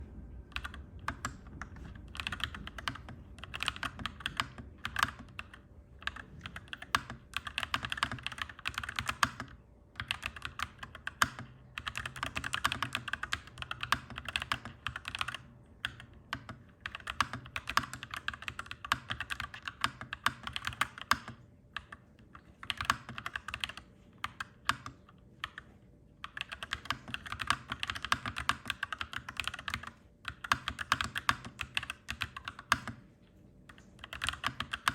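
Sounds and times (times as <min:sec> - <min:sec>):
faint low hum: 0:00.0 - 0:34.9
mechanical keyboard typing: 0:00.5 - 0:33.0, 0:33.7 - 0:34.9.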